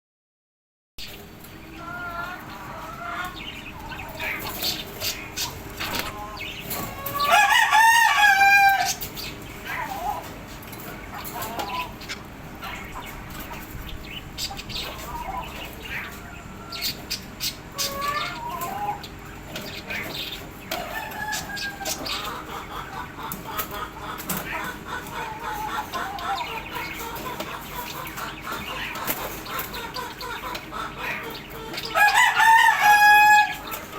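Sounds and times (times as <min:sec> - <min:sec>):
birds calling and clicking: 0:01.0 - 0:33.9.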